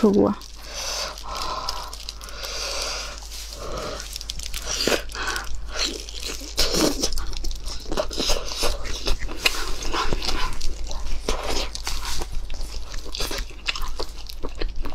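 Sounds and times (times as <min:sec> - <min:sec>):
meat torn apart by hand: 0:00.0 - 0:14.9
wet chewing: 0:00.0 - 0:14.9.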